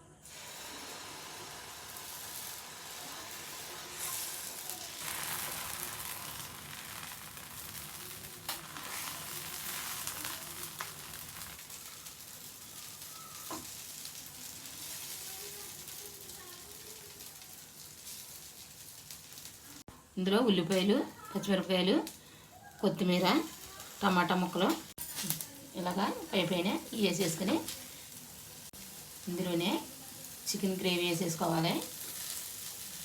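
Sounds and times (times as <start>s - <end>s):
pancake sizzling on a hot pan: 0.0s - 33.0s.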